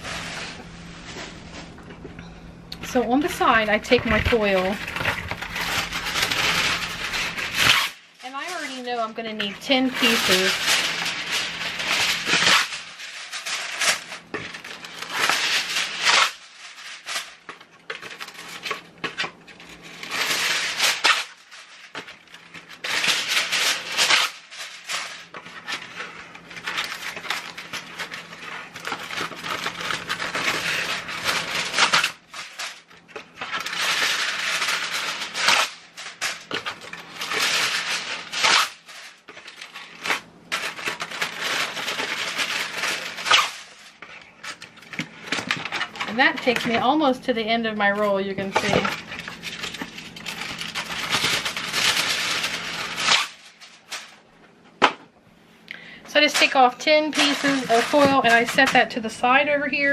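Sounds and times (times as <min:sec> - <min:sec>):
aluminium foil tearing and crinkling: 0:00.0 - 0:01.7, 0:02.8 - 0:54.4, 0:55.8 - 0:59.9.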